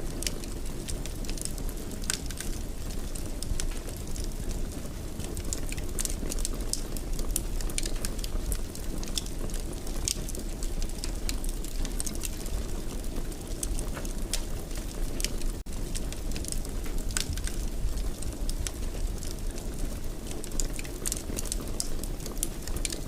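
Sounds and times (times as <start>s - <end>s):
fire crackles and pops: 0.0s - 23.0s.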